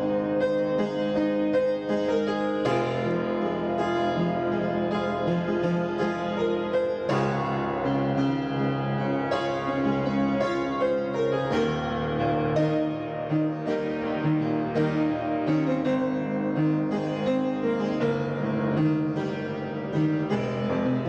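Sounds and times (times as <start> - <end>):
keyboard chords music: 0.0 - 21.0.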